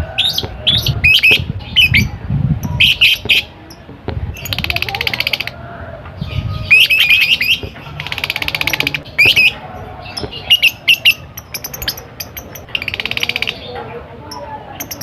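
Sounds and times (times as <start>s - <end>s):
buzzy bird trill: 0.2s - 5.6s, 6.4s - 15.0s
lovebird squawking and chirping: 0.2s - 5.6s, 6.4s - 15.0s.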